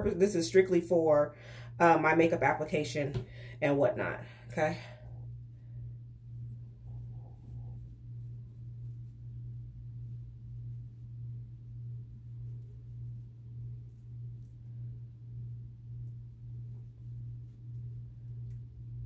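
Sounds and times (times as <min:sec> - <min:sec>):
pulsing low hum: 0:00.0 - 0:19.0.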